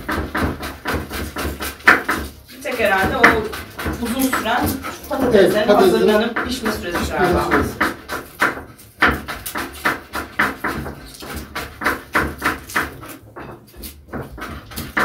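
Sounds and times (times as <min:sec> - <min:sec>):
knife chopping on cutting board: 0:00.0 - 0:15.0.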